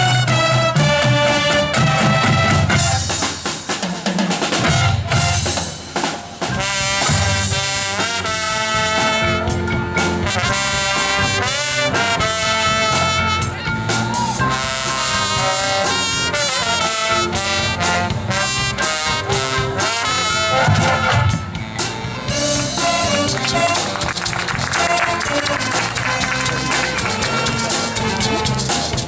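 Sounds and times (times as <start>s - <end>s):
brass section melody: 0.0s - 29.0s
marching band percussion: 0.0s - 29.0s.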